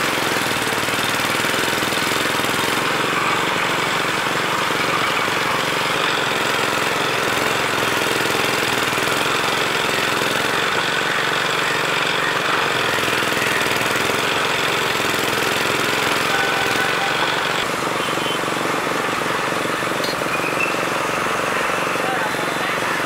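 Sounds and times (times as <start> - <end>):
juice crusher rollers rattling: 0.0 - 22.6.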